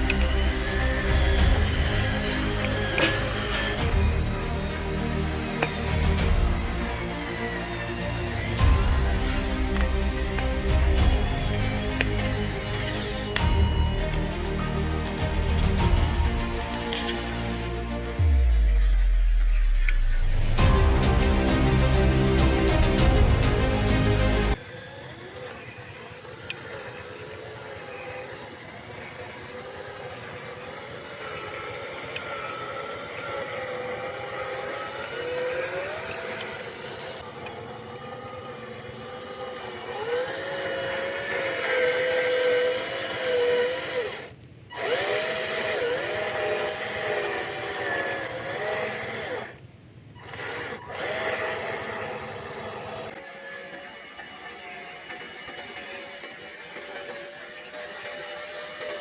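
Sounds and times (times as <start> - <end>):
small electric motor whining: 0.0 - 59.0.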